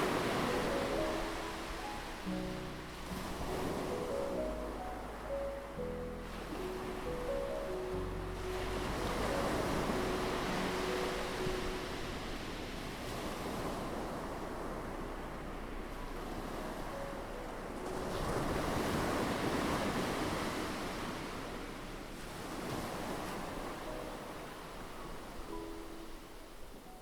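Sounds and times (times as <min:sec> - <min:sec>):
ocean waves washing on shore: 0:00.0 - 0:27.0.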